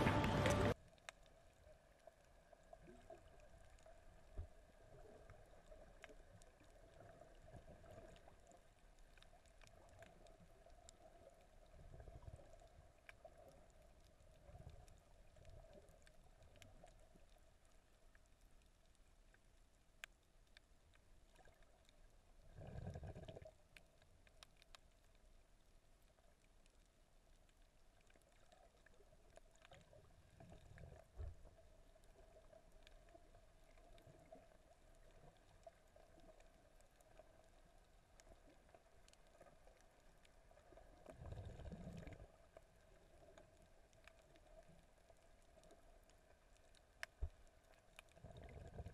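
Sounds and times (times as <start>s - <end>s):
swells of moving water: 0.0s - 18.6s, 27.8s - 48.9s
faint underwater clicks: 0.0s - 48.9s
faint underwater hum: 0.0s - 48.9s.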